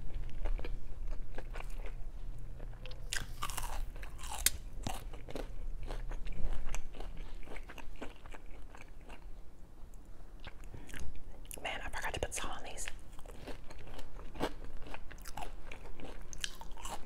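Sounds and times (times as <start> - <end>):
person chewing crunchy fries: 0.0 - 9.4, 10.4 - 17.0.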